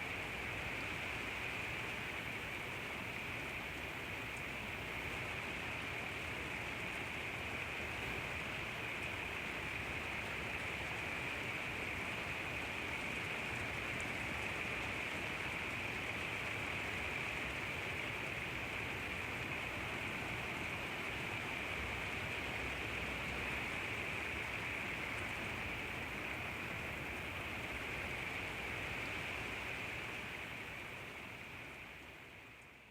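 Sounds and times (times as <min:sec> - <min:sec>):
steady rain: 0:00.0 - 0:32.9.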